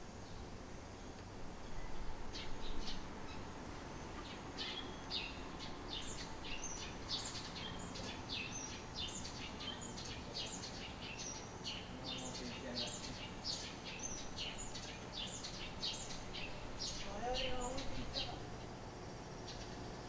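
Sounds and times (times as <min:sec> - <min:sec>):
low steady background noise: 0:00.0 - 0:20.0
small birds chirping: 0:00.0 - 0:20.0.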